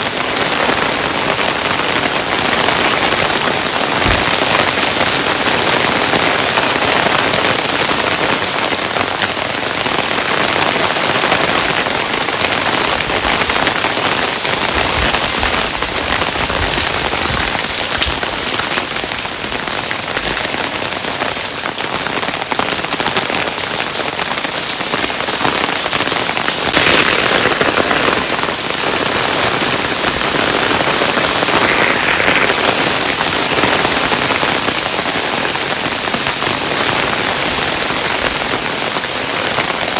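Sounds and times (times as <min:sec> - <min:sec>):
hailstones on a hard surface: 0:00.0 - 0:39.9.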